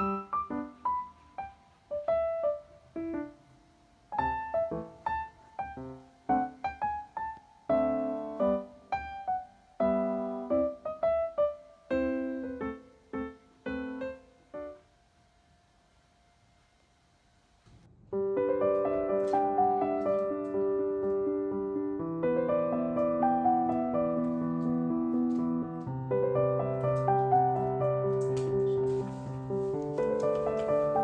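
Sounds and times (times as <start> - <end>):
gentle solo piano melody: 0.0 - 14.9, 17.9 - 31.0.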